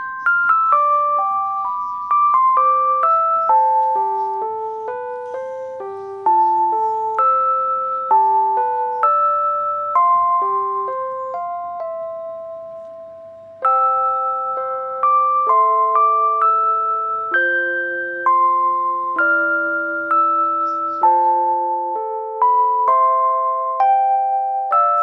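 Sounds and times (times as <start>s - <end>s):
light keyboard melody: 0.0s - 25.0s.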